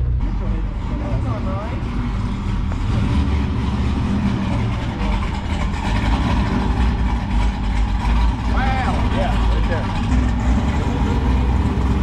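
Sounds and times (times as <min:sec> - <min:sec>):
deep diesel exhaust rumble: 0:00.0 - 0:12.0.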